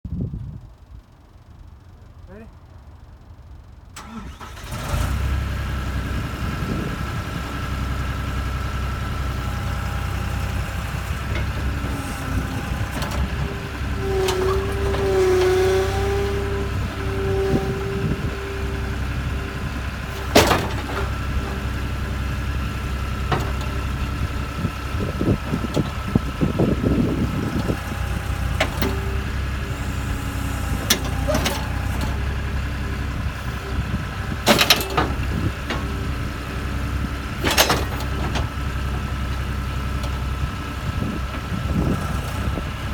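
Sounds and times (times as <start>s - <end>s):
diesel engine running: 0.2s - 42.9s.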